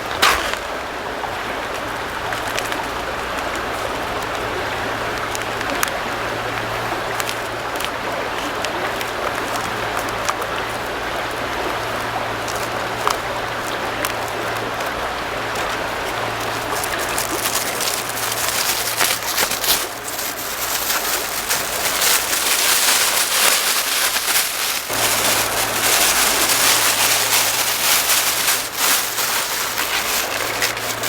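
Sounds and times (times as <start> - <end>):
river water flowing: 0.0 - 31.0
campfire crackling: 1.8 - 31.0.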